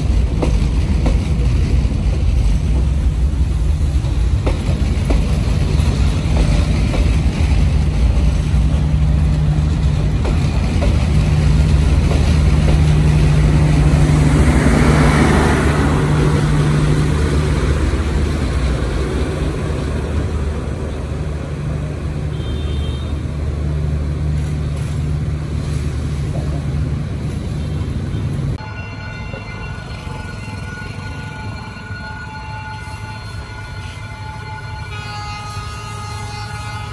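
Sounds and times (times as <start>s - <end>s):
train coaches rolling on rails: 0.0s - 36.9s.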